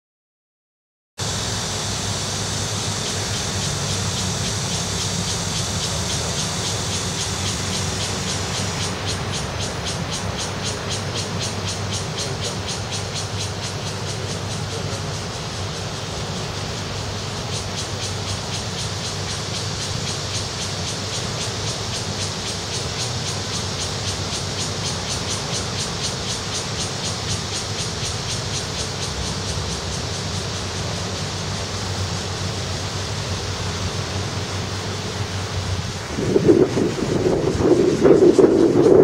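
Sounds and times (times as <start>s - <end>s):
high pulsing hiss: 1.2s - 39.0s.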